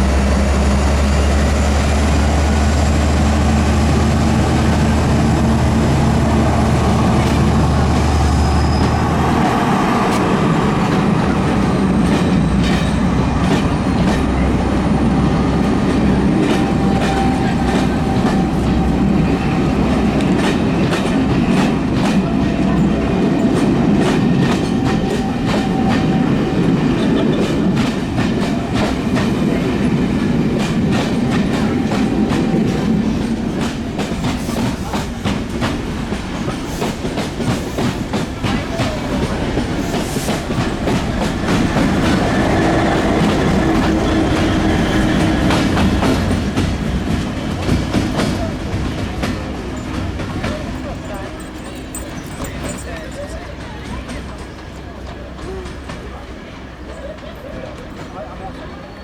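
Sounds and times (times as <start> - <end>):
train wheels clicking over rail joints: 0.0 - 58.6
train rumble: 0.0 - 59.0.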